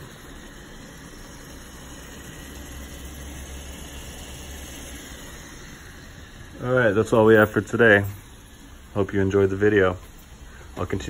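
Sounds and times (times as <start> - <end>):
food sizzling in a pan: 0.0 - 10.8.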